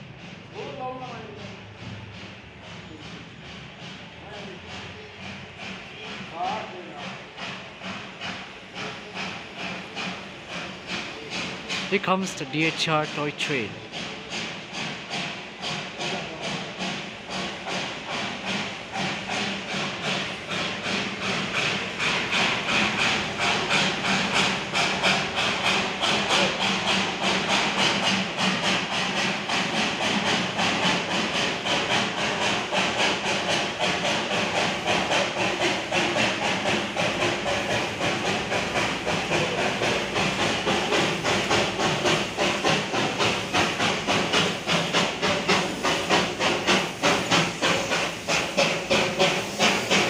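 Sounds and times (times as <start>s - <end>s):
steam hissing: 0.0s - 50.0s
steam locomotive exhaust chuffs: 0.0s - 50.0s.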